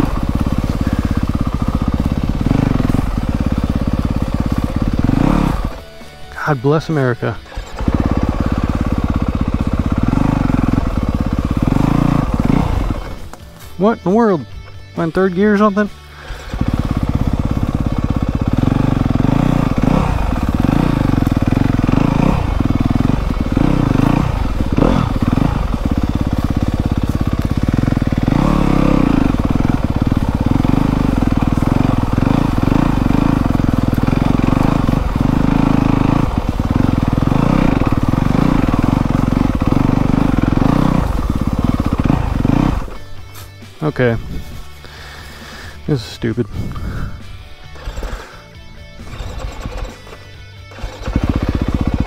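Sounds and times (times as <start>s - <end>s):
dirt bike engine under load: 0.0s - 52.0s.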